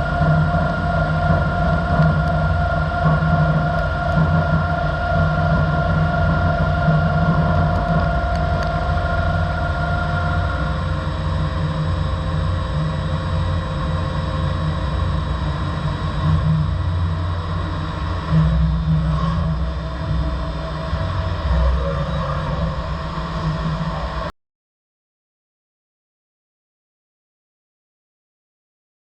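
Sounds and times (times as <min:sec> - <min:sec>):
two-pitch machine whine: 0:00.0 - 0:24.3
machine running with low hum: 0:00.0 - 0:24.4.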